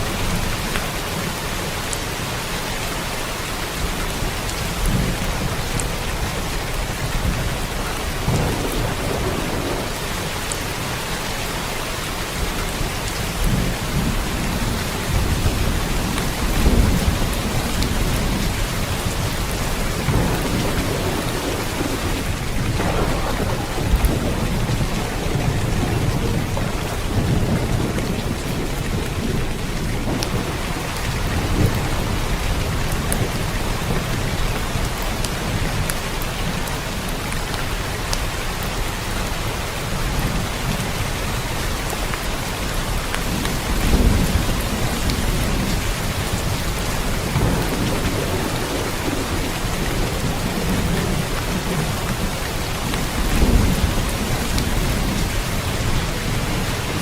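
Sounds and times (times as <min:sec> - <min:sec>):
steady rain: 0:00.0 - 0:57.0
thunder rumbling: 0:03.8 - 0:37.2, 0:40.0 - 0:57.0.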